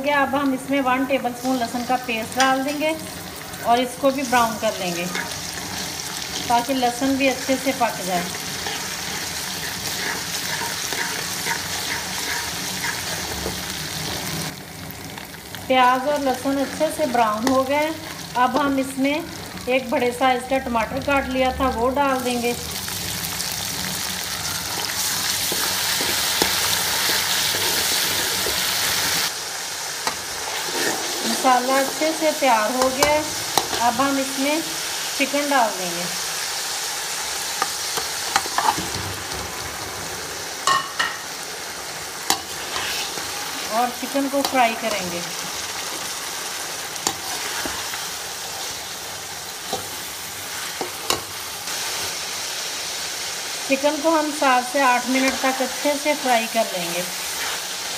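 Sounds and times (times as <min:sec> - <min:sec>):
vegetables sizzling in hot oil: 0:00.0 - 0:57.9.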